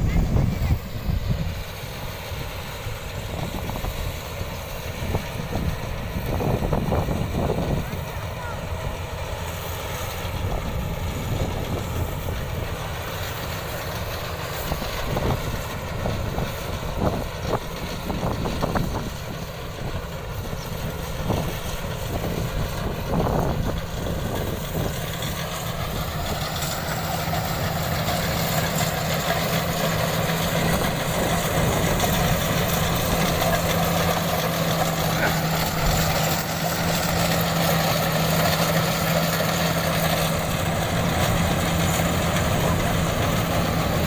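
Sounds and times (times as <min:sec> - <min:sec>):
combine harvester diesel engine: 0:00.0 - 0:44.0.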